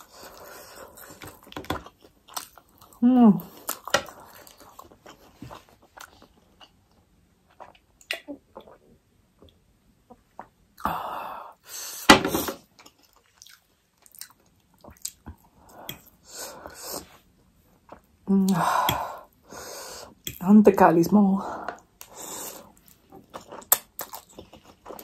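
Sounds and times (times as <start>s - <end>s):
chewing food: 0.0s - 10.6s, 12.6s - 19.1s, 21.6s - 25.0s.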